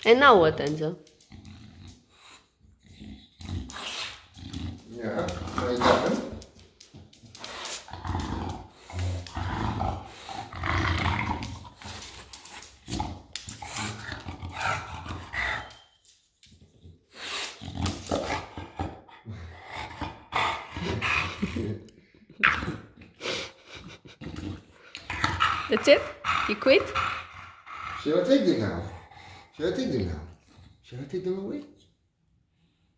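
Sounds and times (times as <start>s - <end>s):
dog grunting and snuffling: 1.1s - 15.8s, 17.2s - 29.8s.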